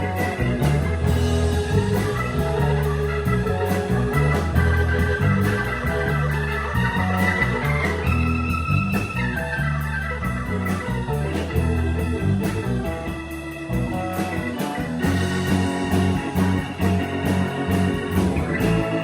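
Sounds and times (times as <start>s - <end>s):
busy bass line: 0.0s - 19.0s
organ chords: 0.0s - 19.0s
steady drum beat: 0.0s - 19.0s.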